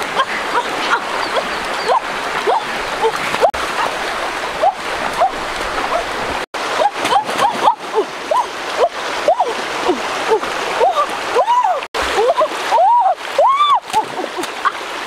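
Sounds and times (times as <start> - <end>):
stream rushing over rocks: 0.0 - 15.0
water splashing: 0.0 - 15.0.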